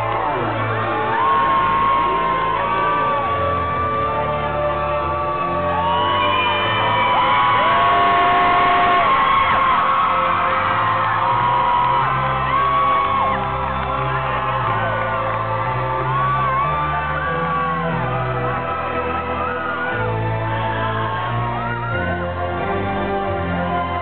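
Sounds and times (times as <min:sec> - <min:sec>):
crowd screaming and whooping: 0:00.0 - 0:24.0.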